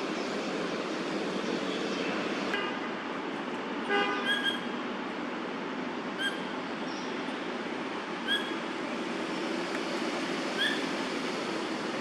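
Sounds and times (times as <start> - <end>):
city road traffic hum: 0.0 - 12.0.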